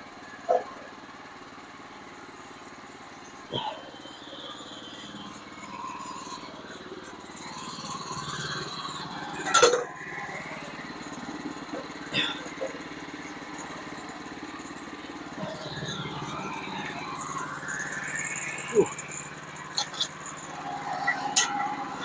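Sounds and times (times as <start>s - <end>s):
gas engine idling: 0.0s - 22.0s.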